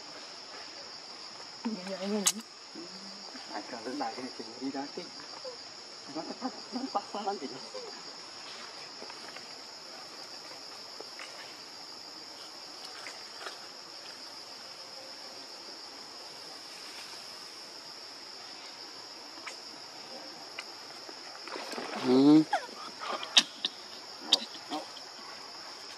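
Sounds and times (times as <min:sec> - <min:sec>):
insects droning: 0:00.0 - 0:25.9.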